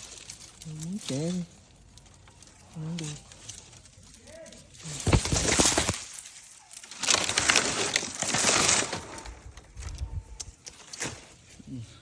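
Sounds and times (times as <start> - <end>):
dry leaves crackling and rustling: 0.0 - 12.0.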